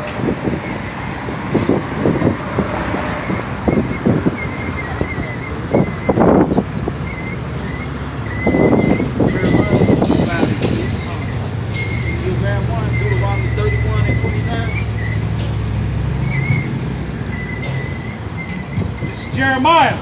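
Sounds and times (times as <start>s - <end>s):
wind buffeting microphone: 0.0s - 19.4s
city street traffic: 0.0s - 20.0s.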